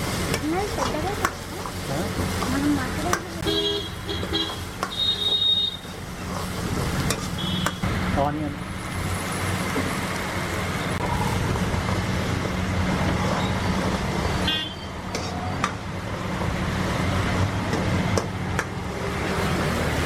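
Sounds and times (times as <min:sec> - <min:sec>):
roadside traffic noise: 0:00.0 - 0:20.0.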